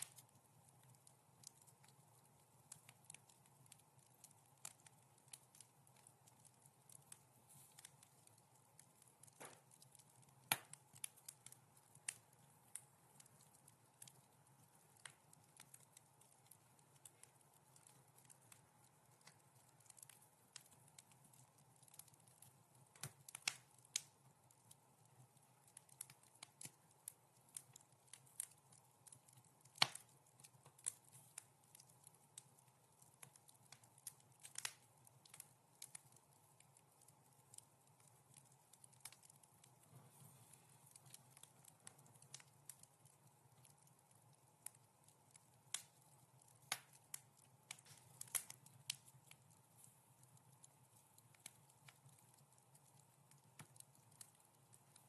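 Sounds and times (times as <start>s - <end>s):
faint steady hiss: 0.0s - 55.0s
wood fire crackling: 0.0s - 55.0s.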